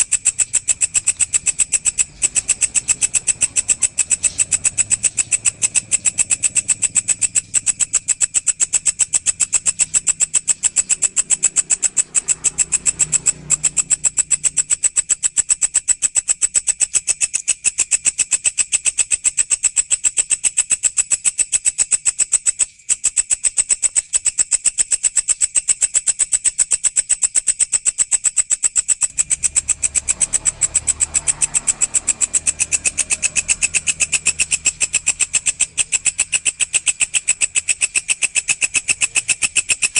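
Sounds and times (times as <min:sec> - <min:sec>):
insect chirping: 0:00.0 - 0:39.9.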